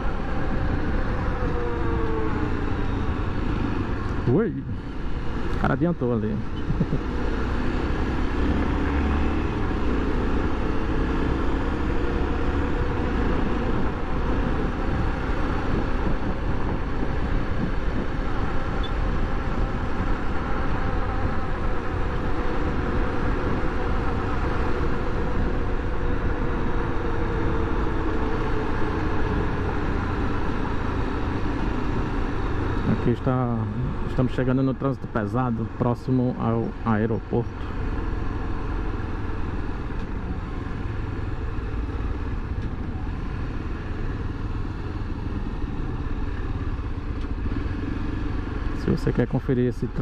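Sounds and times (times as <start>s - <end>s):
wind and road noise: 0.0s - 50.0s.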